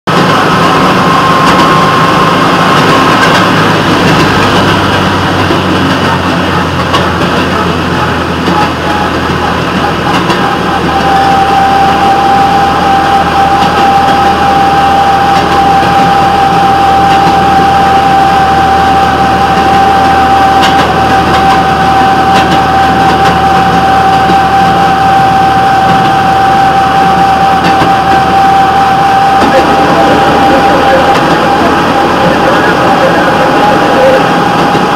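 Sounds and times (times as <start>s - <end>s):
rail motorcar running with whine: 0.1s - 34.9s.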